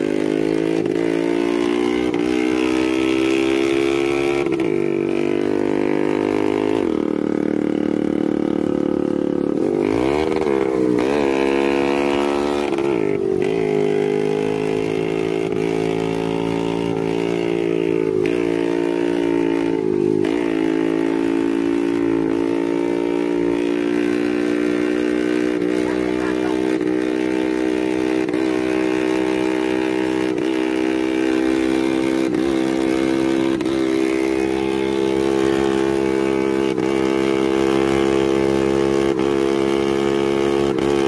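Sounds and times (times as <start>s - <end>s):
scooter engine revving: 0.0s - 41.0s.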